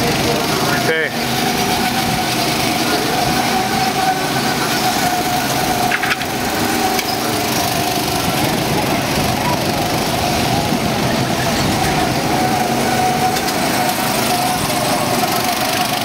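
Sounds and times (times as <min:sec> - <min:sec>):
go-kart engines buzzing: 0:00.0 - 0:16.0.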